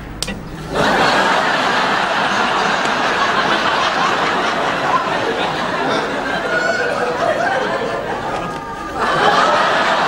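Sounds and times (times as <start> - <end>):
audience laughing: 0.6 - 10.0.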